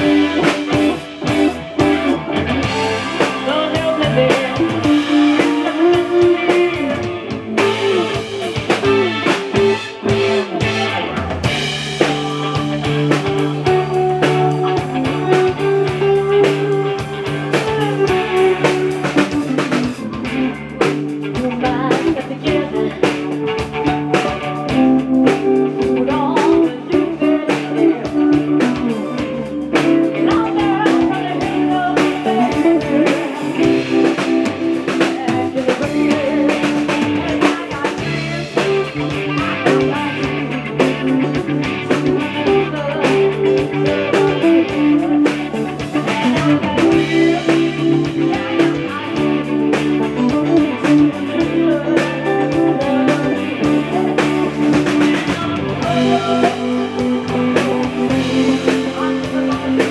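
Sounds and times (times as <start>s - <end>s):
drum kit beat: 0.0s - 59.9s
electric guitar: 0.0s - 59.9s.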